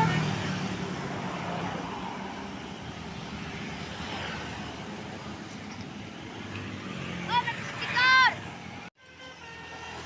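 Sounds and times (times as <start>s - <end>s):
passing vehicle engine and tyres: 0.0s - 10.0s.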